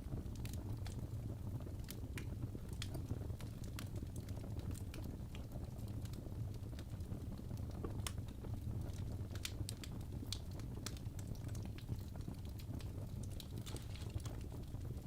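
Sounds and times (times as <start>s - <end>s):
fire low rumble: 0.0s - 15.0s
logs crackling and popping: 0.0s - 15.0s.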